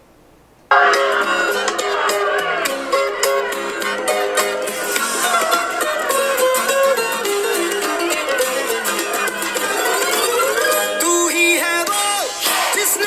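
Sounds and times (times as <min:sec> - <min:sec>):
plucked strings: 0:00.7 - 0:12.7
film song on phone speaker: 0:00.7 - 0:13.0.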